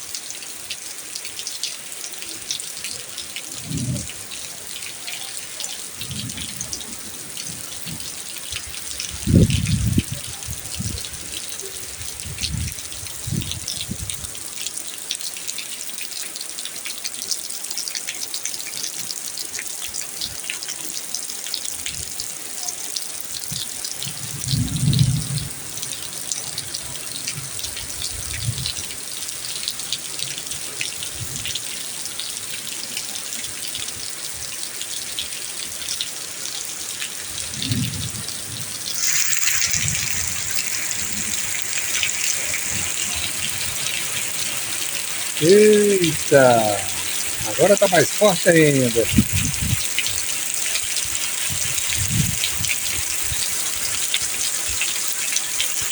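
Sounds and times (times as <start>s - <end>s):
rain falling steadily: 0.0s - 55.9s.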